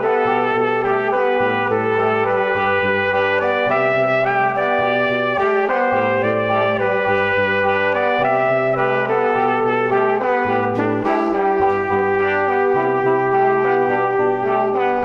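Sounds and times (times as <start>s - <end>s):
brass music with bass line: 0.0s - 15.0s.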